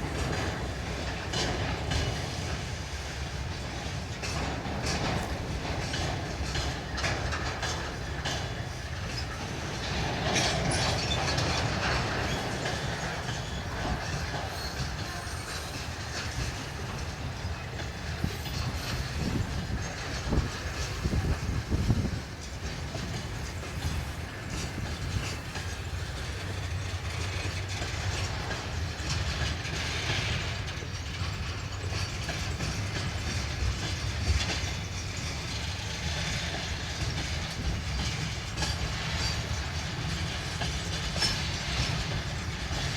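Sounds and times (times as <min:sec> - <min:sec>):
low rumble of freight wagons: 0:00.0 - 0:42.9
train wheels clacking over rail joints: 0:00.0 - 0:42.9.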